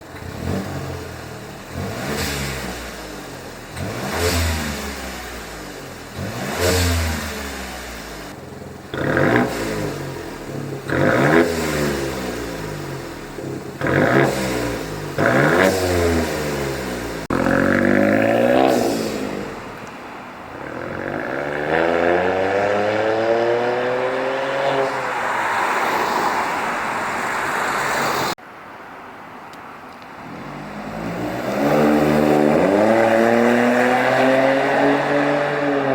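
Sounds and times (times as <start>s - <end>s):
car engine revving: 0.0s - 28.4s, 30.2s - 35.9s.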